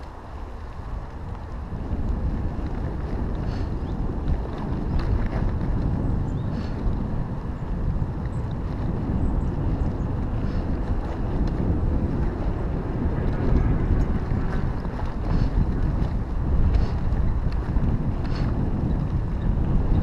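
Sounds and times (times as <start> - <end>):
mountain bike rolling on dirt: 0.0 - 20.0
wind buffeting microphone: 0.0 - 20.0.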